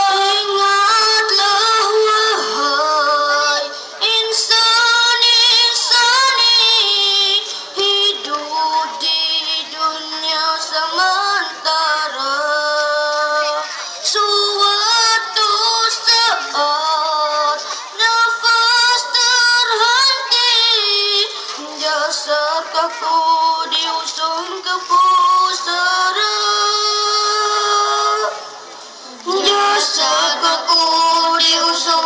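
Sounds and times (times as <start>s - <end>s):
boys singing through pa: 0.0s - 28.4s, 29.1s - 32.0s.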